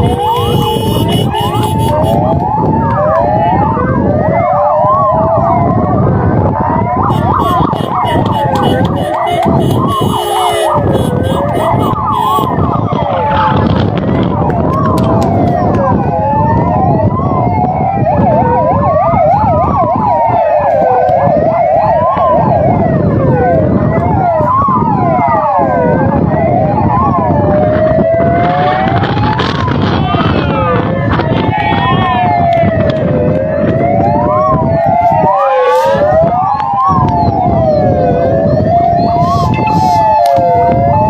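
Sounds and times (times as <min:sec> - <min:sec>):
fast siren yelp: 0:00.0 - 0:41.0
fire engine sirens wailing: 0:00.0 - 0:41.0.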